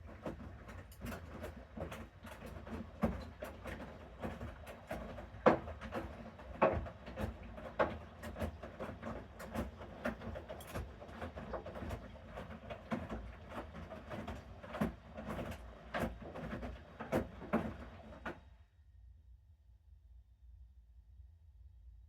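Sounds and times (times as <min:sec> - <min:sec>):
washing machine motor hum: 0:00.0 - 0:18.4
wet laundry tumbling: 0:00.0 - 0:18.4.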